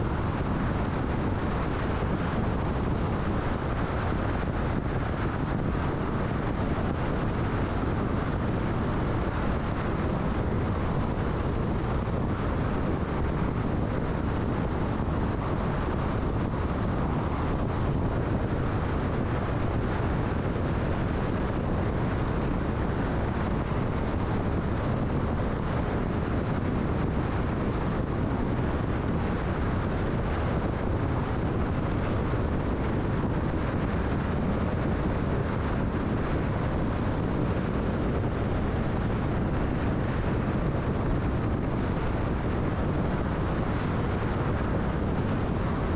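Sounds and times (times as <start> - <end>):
car cruising on a freeway: 0.0 - 45.9.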